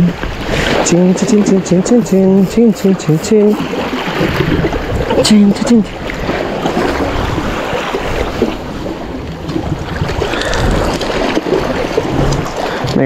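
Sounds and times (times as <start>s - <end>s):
sea washing: 0.0s - 13.0s
wind rumbling on microphone: 0.0s - 13.0s.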